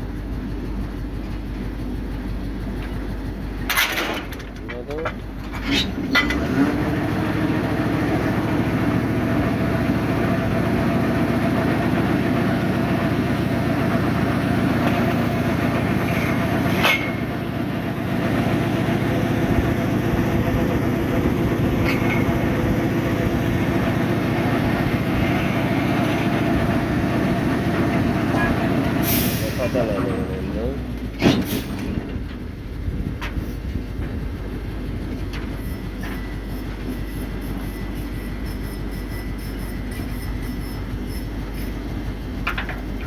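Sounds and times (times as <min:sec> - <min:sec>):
machine running with rattle: 0:00.0 - 0:06.9, 0:10.8 - 0:29.0, 0:29.7 - 0:43.0.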